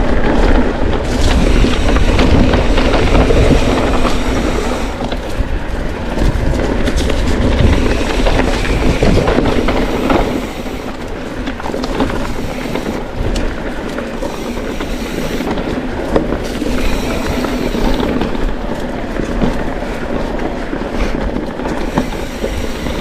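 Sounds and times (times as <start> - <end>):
bike knocking: 0.0 - 23.0
tyres rattling over stones: 0.0 - 23.0.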